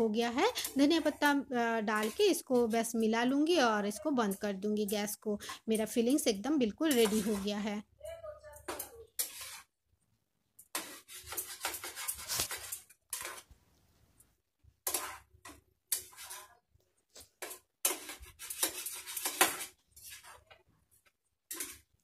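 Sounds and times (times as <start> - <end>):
spatula scraping frying pan: 0.0 - 7.8, 8.7 - 9.8, 10.6 - 13.6, 14.8 - 22.0.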